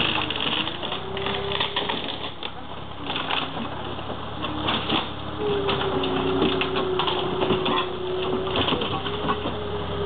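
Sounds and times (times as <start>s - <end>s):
wood cracking and splintering: 0.0s - 9.6s
loader engine running: 0.0s - 10.0s
steady loader whine: 0.0s - 10.0s.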